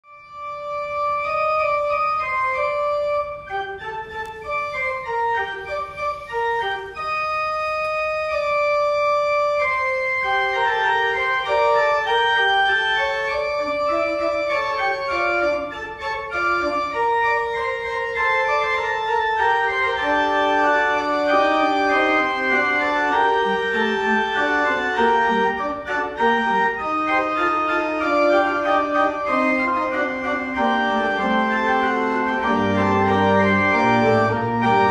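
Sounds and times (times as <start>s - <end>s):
church organ sustained notes: 0.1s - 34.9s.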